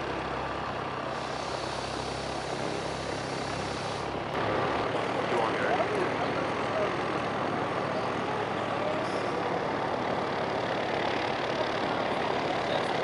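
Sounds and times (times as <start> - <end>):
rushing outdoor background noise: 0.0 - 13.0.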